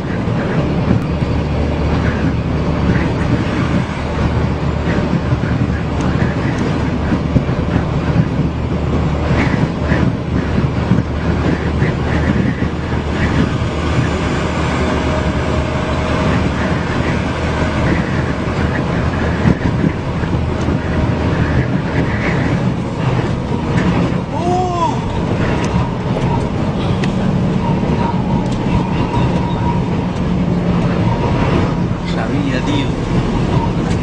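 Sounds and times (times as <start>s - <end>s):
vehicle road and engine noise: 0.0s - 34.0s
wind noise: 0.0s - 34.0s.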